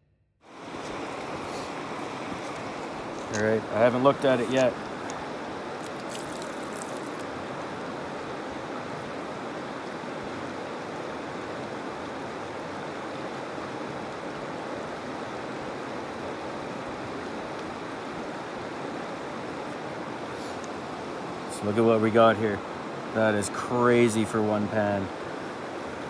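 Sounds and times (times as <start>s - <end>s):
river rushing over rocks: 0.5s - 26.0s.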